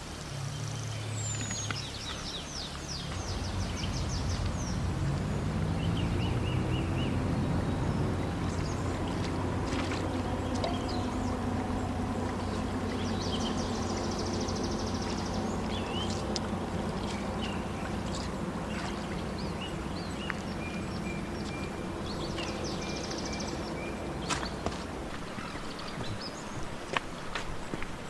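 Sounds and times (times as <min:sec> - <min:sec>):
birds chirping: 0:00.0 - 0:28.0
steady low hum: 0:02.4 - 0:28.0.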